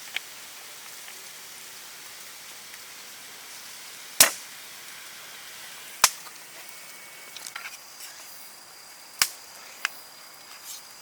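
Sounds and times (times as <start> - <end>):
burning wood popping: 0.0 - 8.4, 9.1 - 11.0
campfire crackling: 0.0 - 11.0.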